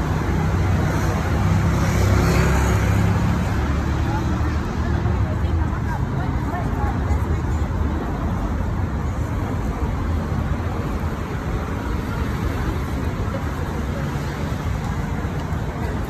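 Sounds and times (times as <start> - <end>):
passers-by talking: 0.0 - 16.0
road traffic: 0.0 - 16.0.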